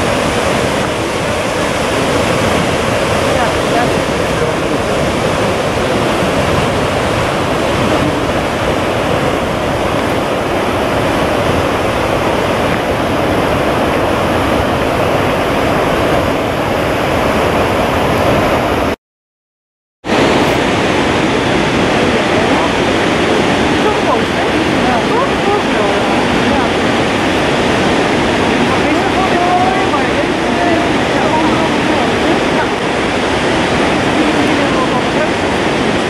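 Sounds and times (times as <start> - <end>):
waterfall rushing: 0.0 - 19.0, 20.1 - 36.0.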